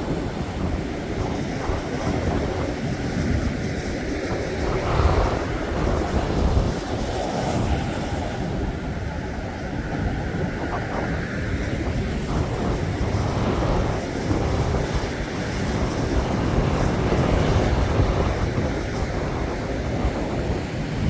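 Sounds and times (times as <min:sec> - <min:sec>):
waves breaking on shore: 0:00.0 - 0:21.0
wind buffeting microphone: 0:00.0 - 0:21.0.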